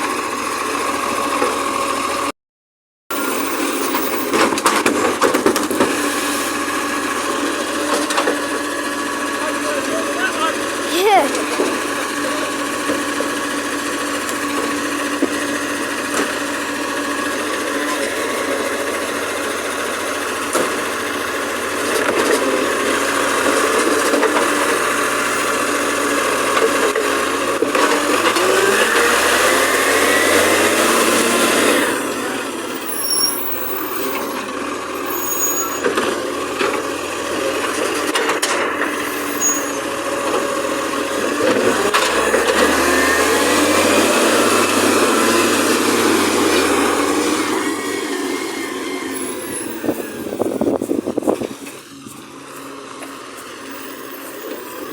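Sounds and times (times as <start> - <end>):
garbage truck engine running: 0.0 - 2.3, 3.1 - 54.9.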